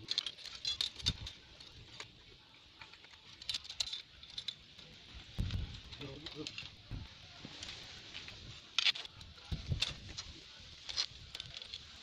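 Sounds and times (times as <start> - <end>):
aluminium tubes clicking and clinking: 0.0 - 7.0, 7.6 - 12.0.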